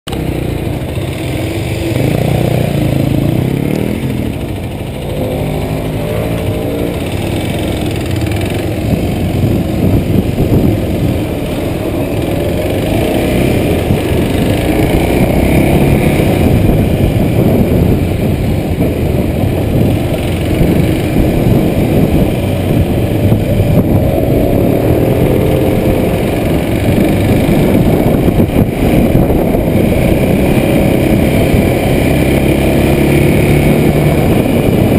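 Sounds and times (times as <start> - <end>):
motorcycle engine climbing uphill: 0.1 - 34.9
rush of riding wind: 0.1 - 34.9.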